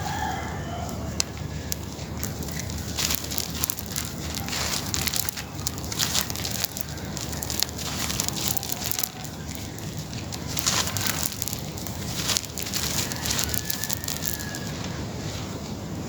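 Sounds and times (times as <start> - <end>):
dry material crumbling and crackling: 0.0 - 15.2.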